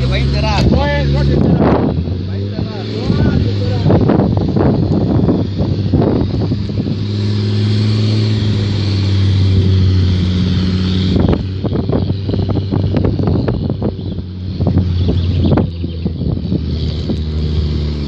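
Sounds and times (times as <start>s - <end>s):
car engine under heavy load: 0.0s - 18.0s.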